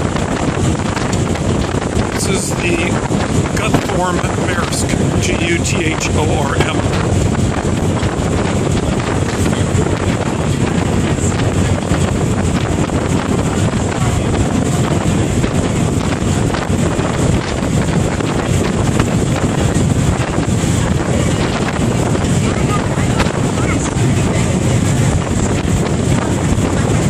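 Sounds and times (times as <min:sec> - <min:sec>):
water rushing along hull: 0:00.0 - 0:27.0
wind buffeting microphone: 0:00.0 - 0:27.0
ferry engines: 0:00.8 - 0:27.0.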